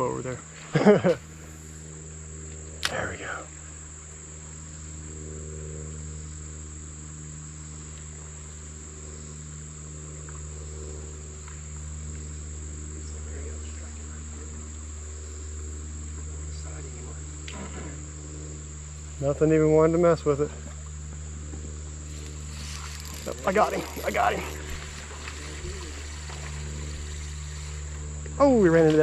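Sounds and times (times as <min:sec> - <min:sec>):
insect chorus buzzing: 0:00.0 - 0:29.0
low hum: 0:00.0 - 0:29.0.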